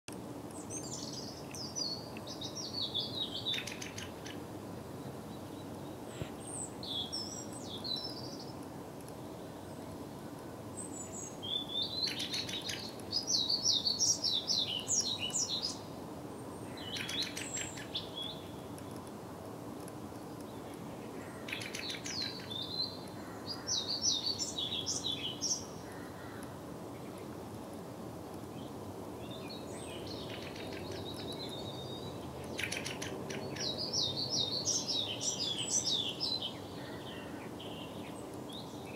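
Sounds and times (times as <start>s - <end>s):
low background noise: 0.1s - 38.9s
songbird singing: 0.1s - 38.9s.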